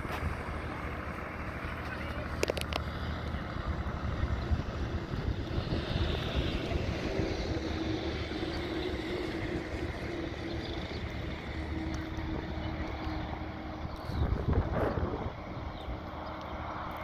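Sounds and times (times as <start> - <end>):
tractor engine running: 0.0 - 17.0
wind buffeting microphone: 0.0 - 17.0.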